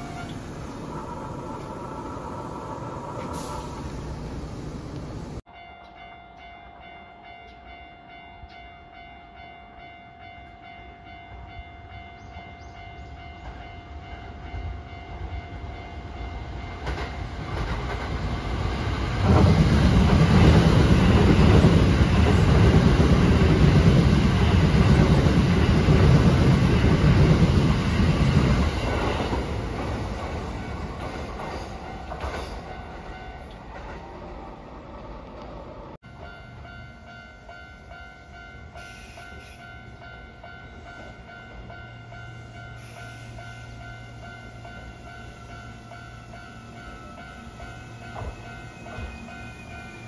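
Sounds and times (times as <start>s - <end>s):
electric train passing: 0.0s - 50.0s.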